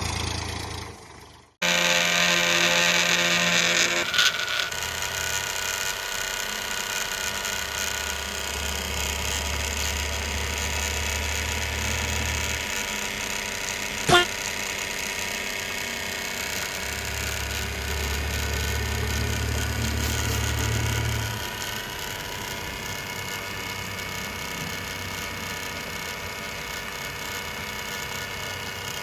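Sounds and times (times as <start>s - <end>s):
small electric motor and gearing: 0.0s - 29.0s.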